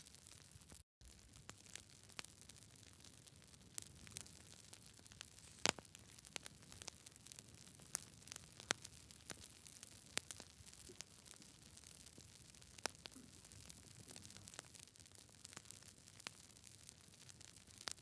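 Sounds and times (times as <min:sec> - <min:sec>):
campfire pops and snaps: 0:01.0 - 0:18.0
faint steady hiss: 0:03.0 - 0:18.0.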